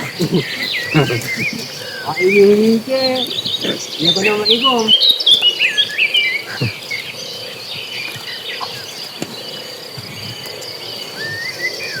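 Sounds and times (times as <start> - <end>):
birds chirping: 0.0 - 12.0
insects droning: 0.0 - 12.0.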